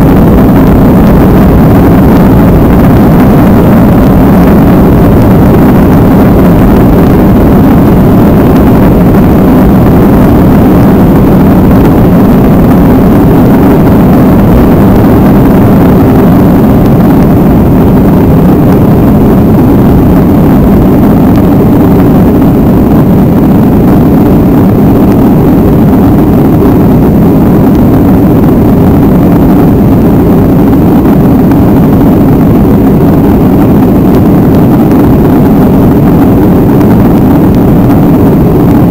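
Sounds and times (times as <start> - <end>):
jet engines from inside cabin: 0.0 - 38.9.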